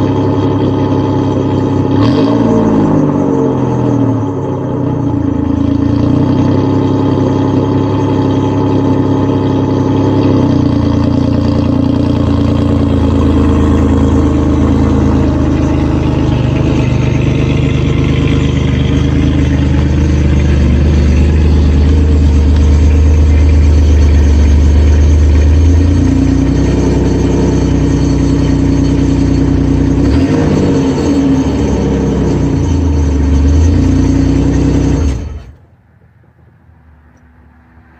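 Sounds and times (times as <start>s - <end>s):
car engine idling with exhaust leak: 0.0s - 35.7s.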